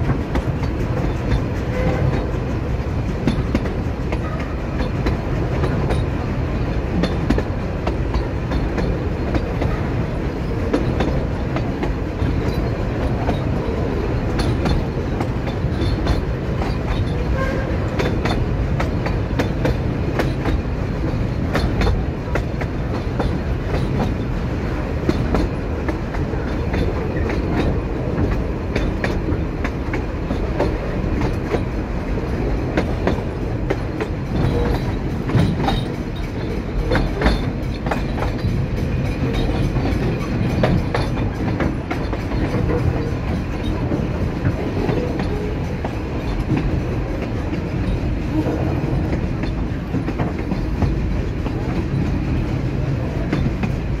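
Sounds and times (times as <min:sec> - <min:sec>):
train carriages rumbling and rattling: 0:00.0 - 0:54.0
wheels clacking over rail joints: 0:00.0 - 0:54.0.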